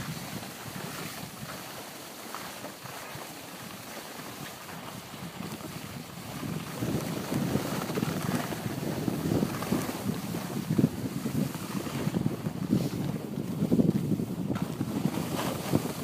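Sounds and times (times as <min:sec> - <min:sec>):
wind buffeting microphone: 0:00.0 - 0:01.8, 0:03.6 - 0:16.0
skis sliding on snow: 0:00.0 - 0:16.0.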